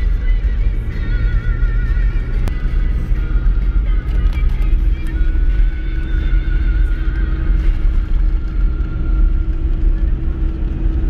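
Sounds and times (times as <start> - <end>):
car engine and tyre rumble: 0.0 - 11.0
music playing: 0.0 - 11.0.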